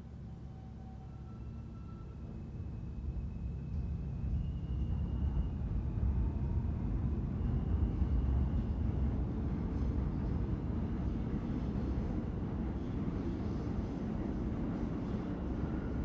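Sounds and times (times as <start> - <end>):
subway train rumbling on rails: 0.0 - 16.0.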